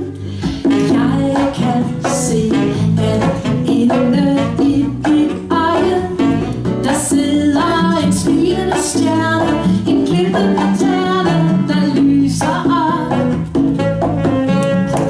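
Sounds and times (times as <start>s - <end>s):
person singing: 0.0s - 13.5s
acoustic guitar: 0.0s - 15.0s
bass: 0.0s - 15.0s
percussion: 0.0s - 15.0s.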